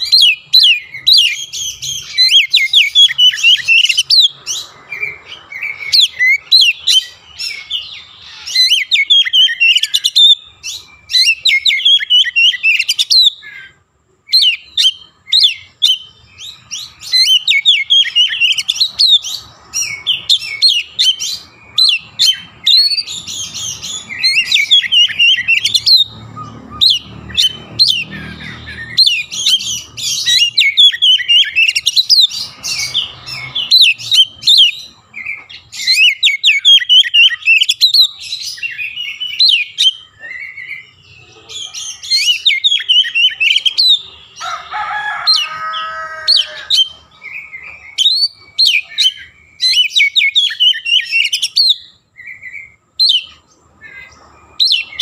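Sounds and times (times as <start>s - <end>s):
bird singing whistles: 0.0s - 13.7s, 14.3s - 44.4s, 46.4s - 55.0s.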